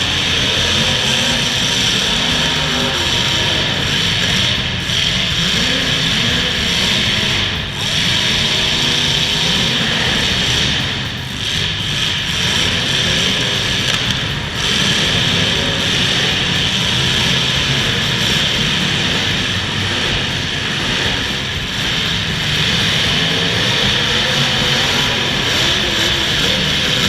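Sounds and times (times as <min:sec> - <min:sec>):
car engines revving: 0:00.0 - 0:27.0
steady wash of noise: 0:00.0 - 0:27.0.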